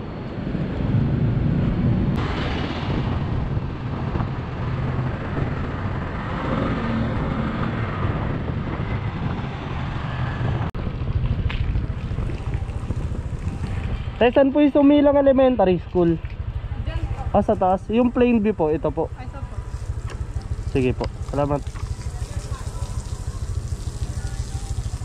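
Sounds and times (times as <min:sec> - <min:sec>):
wind buffeting microphone: 0:00.0 - 0:25.0
scooter engine: 0:03.0 - 0:25.0.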